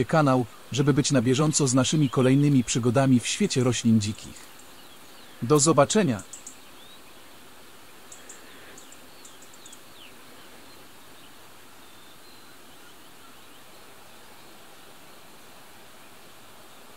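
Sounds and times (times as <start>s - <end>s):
small birds chirping: 0.0s - 16.9s
steady hiss: 0.0s - 16.9s.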